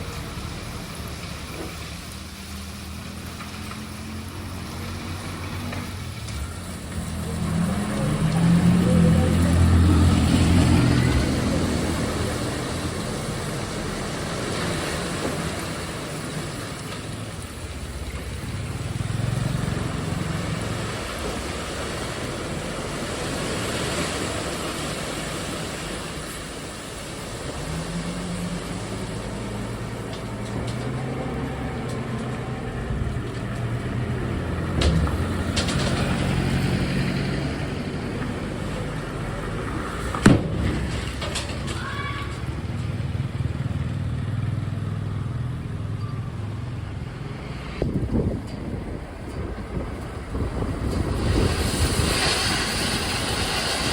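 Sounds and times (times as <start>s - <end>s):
diesel truck engine revving: 0.0s - 53.9s.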